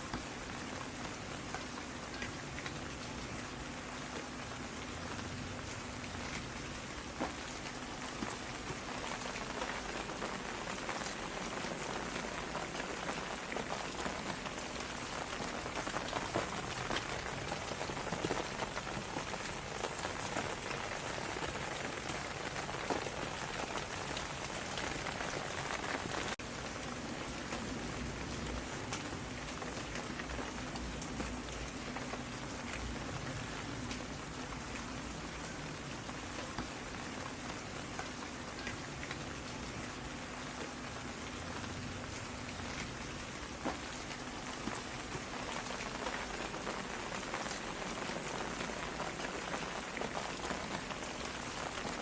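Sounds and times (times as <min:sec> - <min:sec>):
rain falling on a surface: 0:00.0 - 0:52.0.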